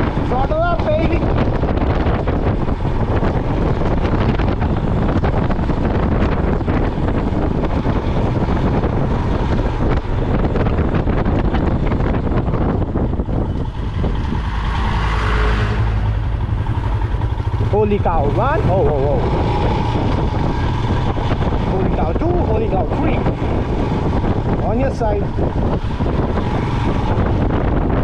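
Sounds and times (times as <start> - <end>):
motorcycle engine under throttle: 0.0 - 28.0
wind buffeting microphone: 0.0 - 28.0.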